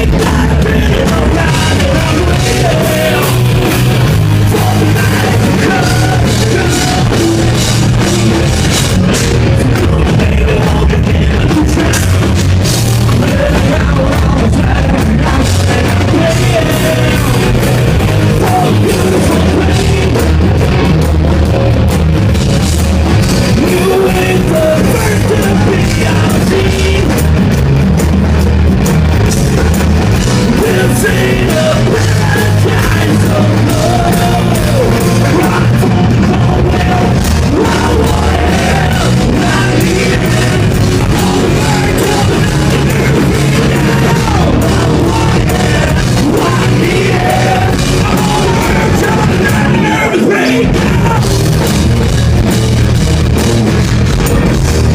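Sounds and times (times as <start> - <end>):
man singing and yelling: 0.0 - 21.9, 23.4 - 27.4, 30.2 - 51.6
rock band playing live: 0.0 - 54.9.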